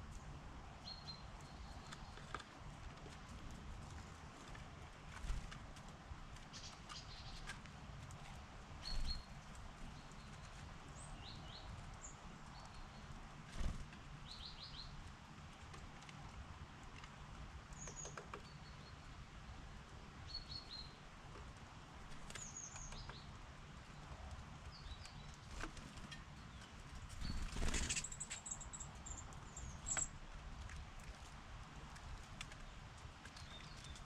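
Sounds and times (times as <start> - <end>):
small birds chirping: 0.0 - 30.2, 31.8 - 34.0
rustle: 0.0 - 34.0.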